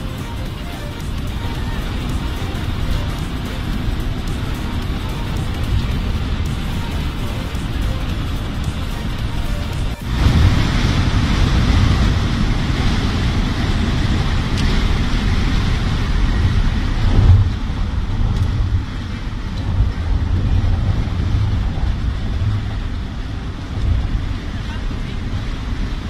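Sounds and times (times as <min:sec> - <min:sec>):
wind hiss: 0:00.0 - 0:24.5
engine and tyre rumble: 0:00.0 - 0:26.0.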